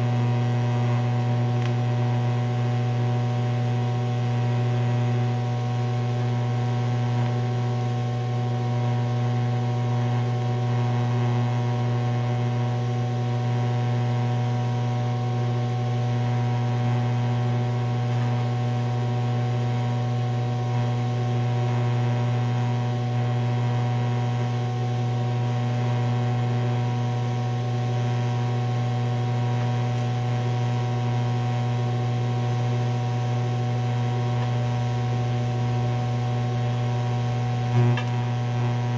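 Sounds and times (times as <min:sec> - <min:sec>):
welding arc humming and hissing: 0:00.0 - 0:38.9.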